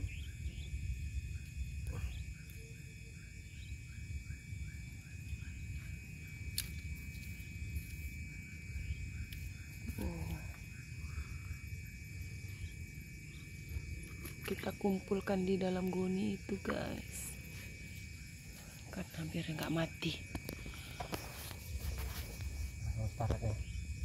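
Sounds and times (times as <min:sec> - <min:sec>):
night insects droning: 0:00.0 - 0:24.0.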